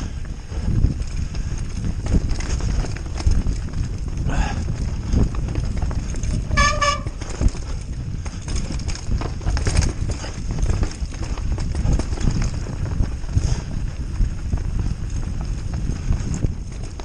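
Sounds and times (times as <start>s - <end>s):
bike rumbling and rattling on trail: 0.0s - 17.0s.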